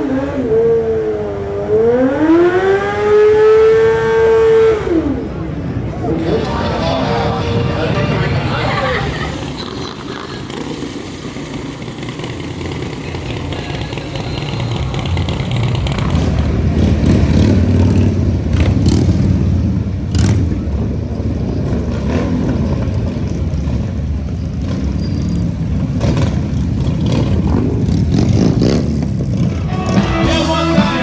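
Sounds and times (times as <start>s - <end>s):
motorcycle engine revving hard: 0.0s - 5.4s, 6.2s - 31.0s.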